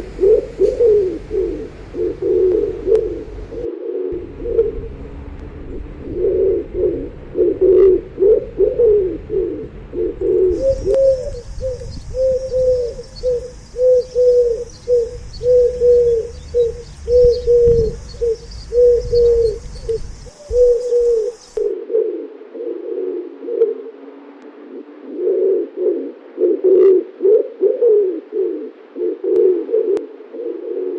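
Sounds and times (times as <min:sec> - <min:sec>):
pigeons cooing: 0:00.0 - 0:30.9.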